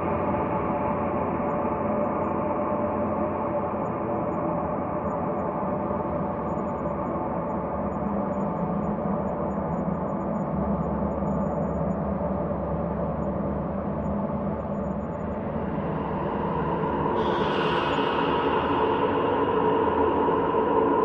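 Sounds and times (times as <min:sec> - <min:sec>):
ambient drone: 0:00.0 - 0:21.0.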